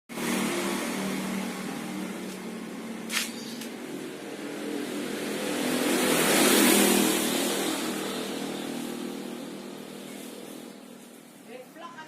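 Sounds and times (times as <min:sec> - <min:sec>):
motor vehicle passing by: 0:00.1 - 0:11.6.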